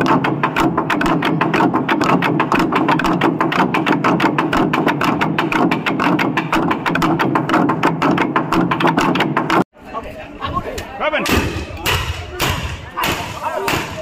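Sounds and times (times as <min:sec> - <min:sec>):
long drums beaten fast: 0:00.0 - 0:09.6, 0:11.2 - 0:14.0.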